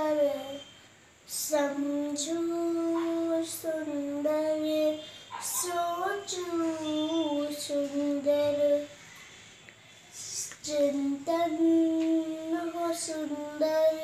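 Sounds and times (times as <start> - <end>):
girl singing unaccompanied: 0.0 - 9.2, 10.1 - 14.0.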